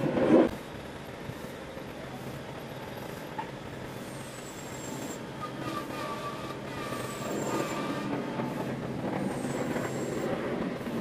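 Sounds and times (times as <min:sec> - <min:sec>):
jet engine rumble and whine: 0:00.0 - 0:11.0.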